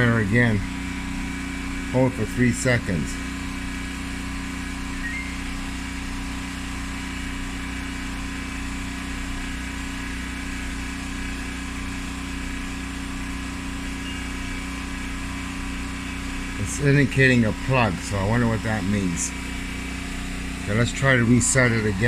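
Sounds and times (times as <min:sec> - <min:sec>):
generator engine droning: 0:00.0 - 0:22.0.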